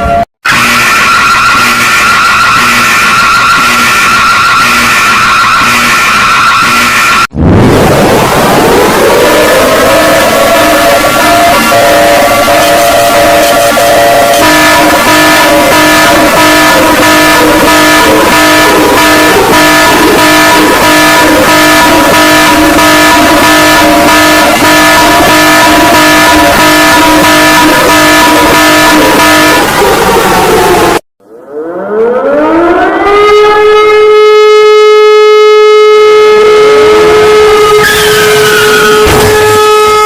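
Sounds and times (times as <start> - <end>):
pulsing multi-tone alarm: 0.0 - 7.3, 8.4 - 40.0
siren winding up: 0.0 - 7.3, 8.2 - 40.0.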